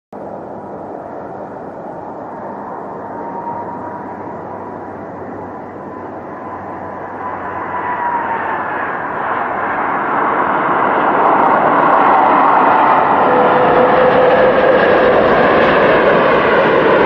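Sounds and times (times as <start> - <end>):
jet engine whine: 0.1 - 17.0
rushing noise: 0.2 - 17.0.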